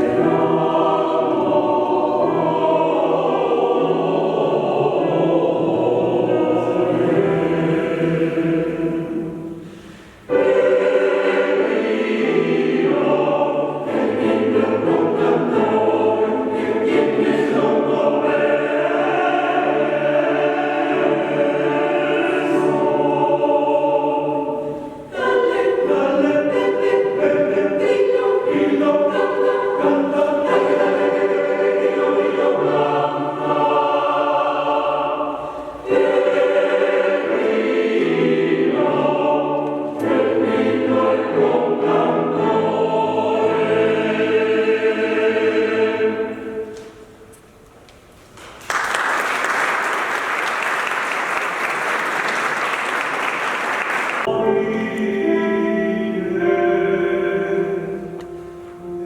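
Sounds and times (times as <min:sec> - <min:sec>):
choir singing sustained chords: 0:00.0 - 0:47.4, 0:50.2 - 0:59.0.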